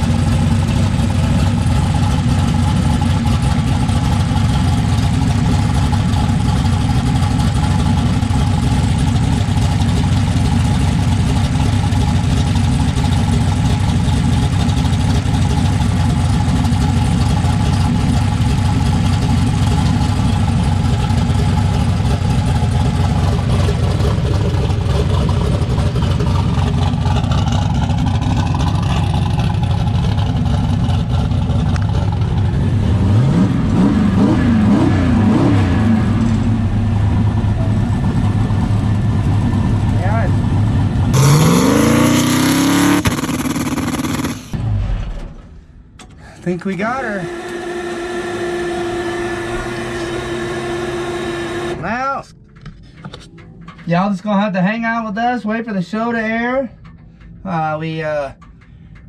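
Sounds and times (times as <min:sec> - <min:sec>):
car engine idling and revving: 0:00.0 - 0:54.4, 0:55.6 - 0:59.0.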